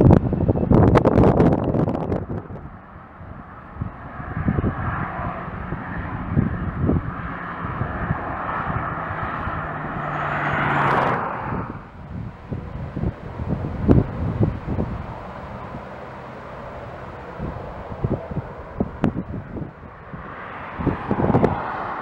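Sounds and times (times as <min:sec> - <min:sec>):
distant jet engine rush: 0:00.0 - 0:22.0
wind buffeting microphone: 0:00.0 - 0:22.0.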